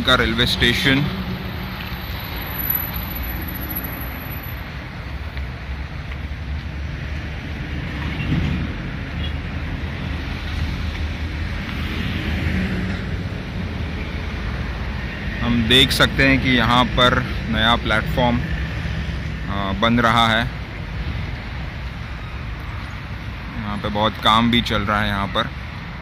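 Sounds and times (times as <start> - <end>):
engines rumbling: 0.0 - 26.0.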